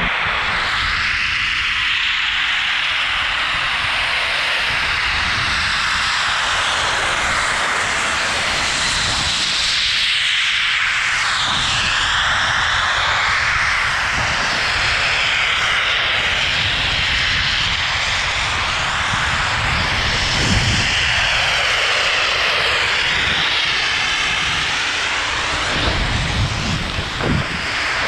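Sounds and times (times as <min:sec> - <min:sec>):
snowmaking guns roaring and hissing: 0:00.0 - 0:28.0.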